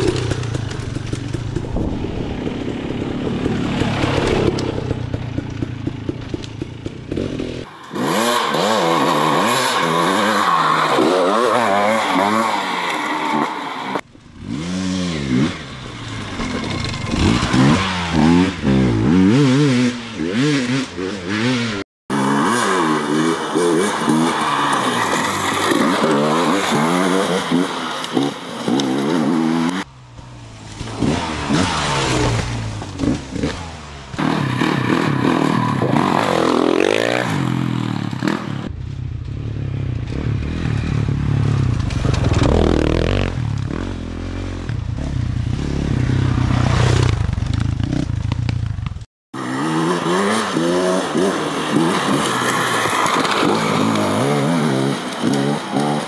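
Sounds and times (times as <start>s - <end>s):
dirt bike engines revving: 0.0s - 38.7s, 49.4s - 56.0s.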